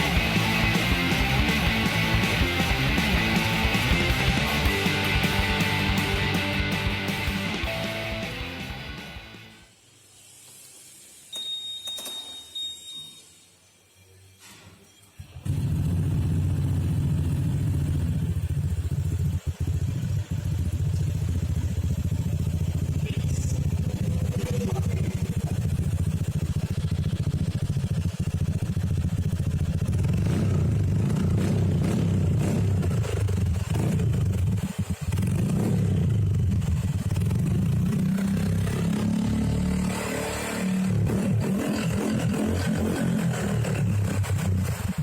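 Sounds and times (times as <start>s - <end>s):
scooter engine running: 0.0s - 8.7s, 15.4s - 45.0s.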